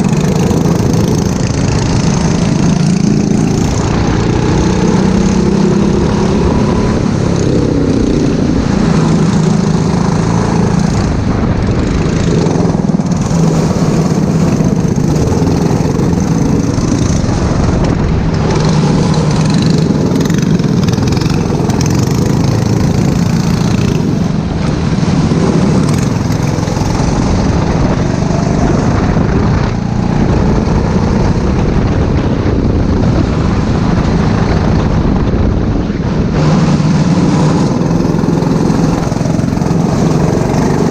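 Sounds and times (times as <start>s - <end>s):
kart engine revving: 0.0s - 32.2s, 36.2s - 40.9s.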